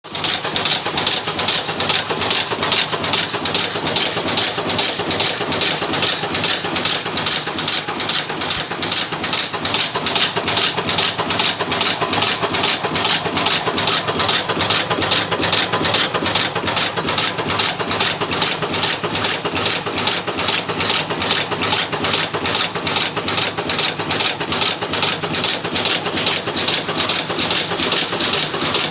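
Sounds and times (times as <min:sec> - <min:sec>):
machine clicking rapidly: 0:00.1 - 0:28.9.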